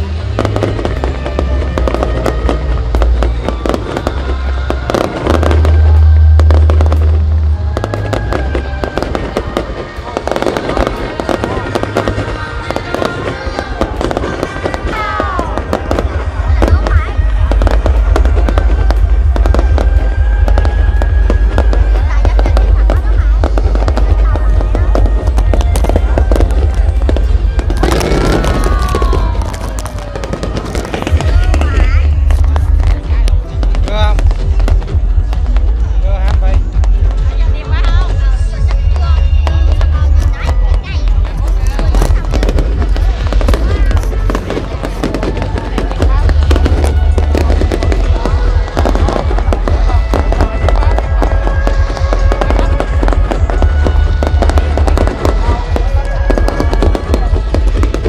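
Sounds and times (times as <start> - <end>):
fireworks bursting and crackling: 0.0 - 58.0
music with deep bass: 0.0 - 58.0.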